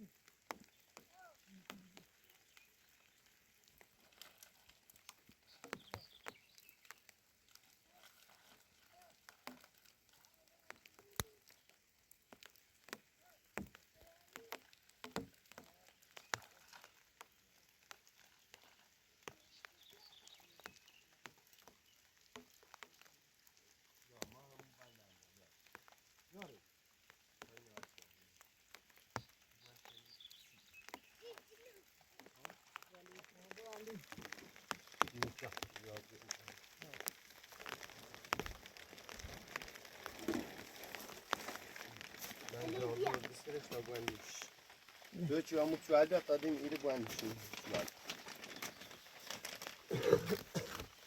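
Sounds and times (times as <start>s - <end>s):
faint sharp clicks and knocks: 0.0s - 51.0s.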